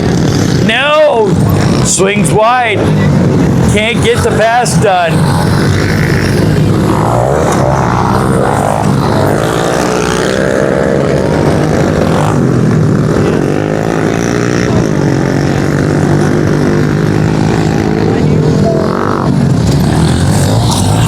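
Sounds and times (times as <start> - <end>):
pit bike engines racing: 0.0 - 21.0.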